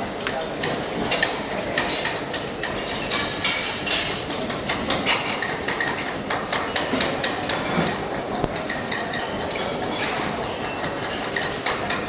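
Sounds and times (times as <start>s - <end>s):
steady background noise: 0.0s - 12.0s
metal utensils clinking on pans: 0.2s - 12.0s.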